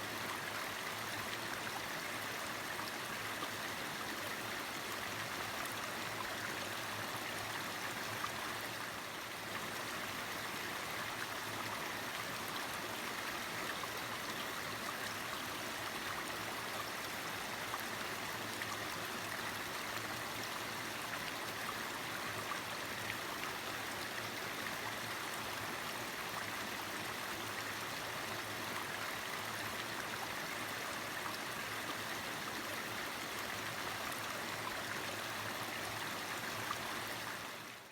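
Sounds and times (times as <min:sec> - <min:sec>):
stream flowing over rocks: 0:00.0 - 0:37.9.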